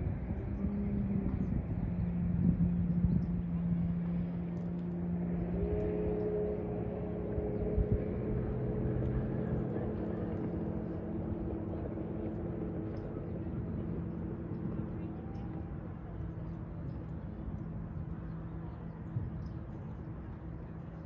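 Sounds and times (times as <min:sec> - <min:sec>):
distant engine droning: 0:00.0 - 0:21.0.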